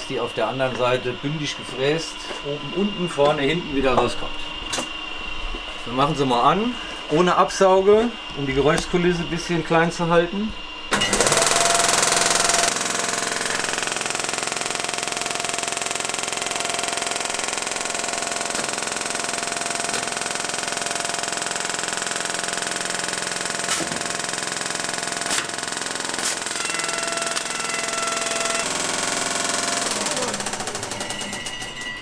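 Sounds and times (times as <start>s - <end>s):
edgebanding machine running: 0.0s - 32.0s.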